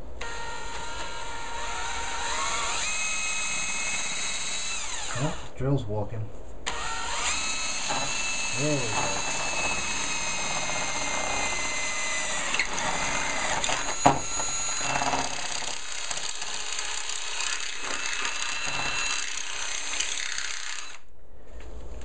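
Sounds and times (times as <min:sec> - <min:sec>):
cordless drill whining: 0:00.2 - 0:05.5, 0:06.7 - 0:21.1.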